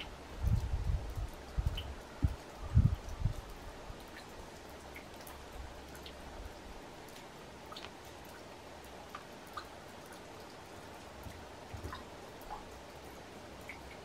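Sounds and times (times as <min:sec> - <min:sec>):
faint outdoor background noise: 0:00.0 - 0:14.0
light ticks and drip-like clicks: 0:00.0 - 0:14.0.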